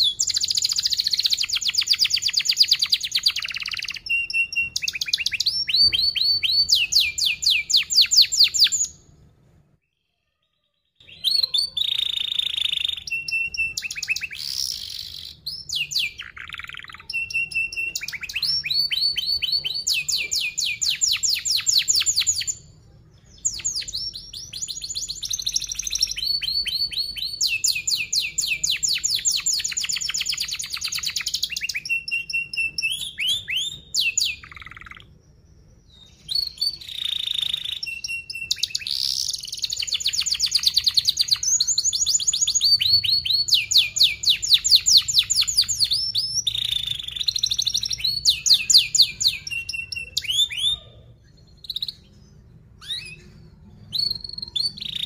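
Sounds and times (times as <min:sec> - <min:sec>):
canary singing trills: 0:00.0 - 0:55.0
single bird chirps: 0:09.8 - 0:55.0.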